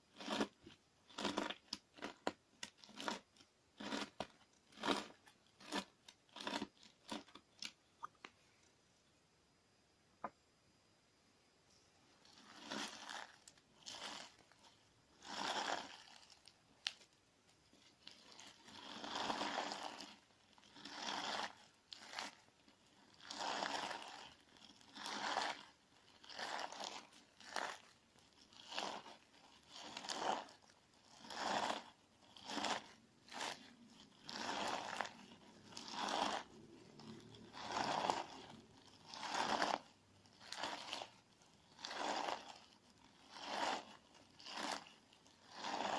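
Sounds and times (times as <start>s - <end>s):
crunchy slime squishing: 0.0s - 7.8s, 12.1s - 45.9s.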